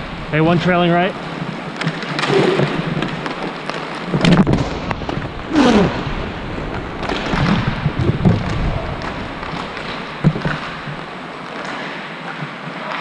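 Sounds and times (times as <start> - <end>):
skate wheels rumbling on floor: 0.0 - 13.0
hockey sticks clacking: 0.4 - 13.0
puck hitting boards: 1.2 - 5.4, 6.0 - 13.0.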